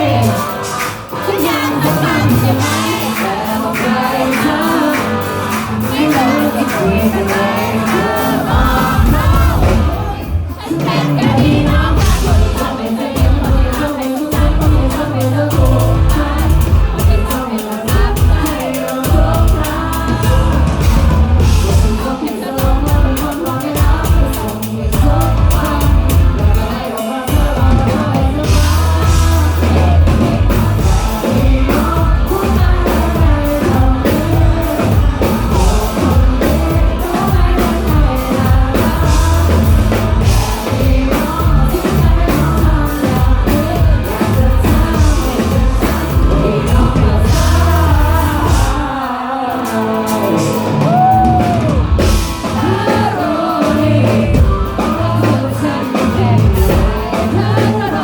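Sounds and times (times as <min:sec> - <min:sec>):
live pop-rock band playing: 0:00.0 - 0:58.0
person singing lead vocals: 0:00.0 - 0:58.0.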